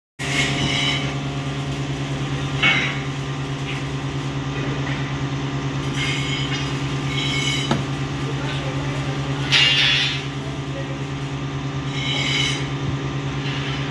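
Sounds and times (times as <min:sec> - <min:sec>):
pulsing machine hum: 0:00.2 - 0:13.9.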